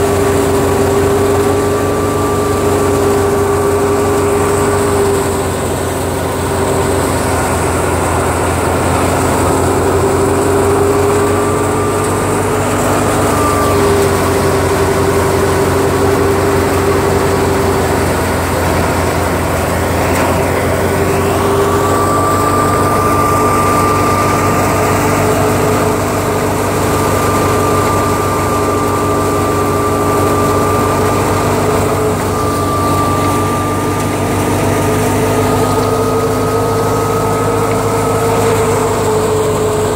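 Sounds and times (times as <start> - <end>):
high-pitched machine whine: 0.0 - 39.9
thresher and tractor drone: 0.0 - 39.9.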